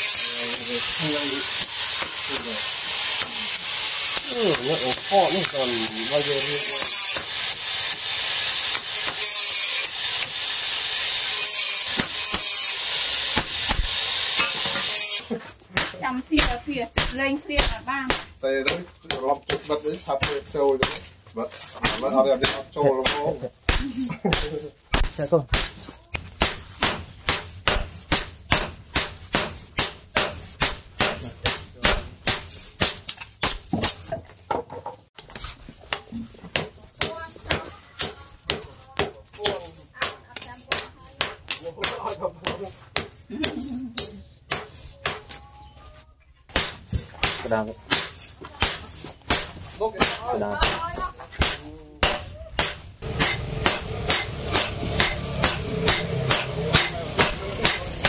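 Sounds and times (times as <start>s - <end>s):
hammer striking steel blade: 0.0s - 15.2s, 15.8s - 21.1s, 21.8s - 34.1s, 36.5s - 45.4s, 46.5s - 50.8s, 51.4s - 58.0s.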